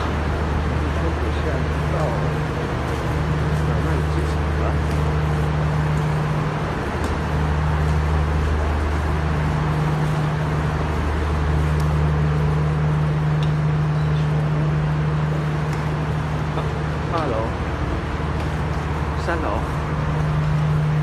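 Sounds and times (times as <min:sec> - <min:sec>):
constant noisy wash: 0:00.0 - 0:21.0
low mechanical hum: 0:00.0 - 0:21.0.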